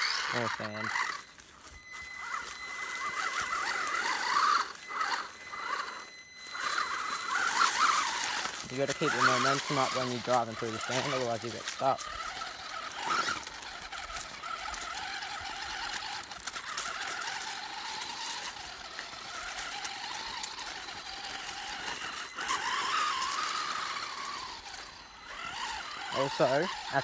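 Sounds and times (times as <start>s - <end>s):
toy car motor whining: 0.0s - 27.0s.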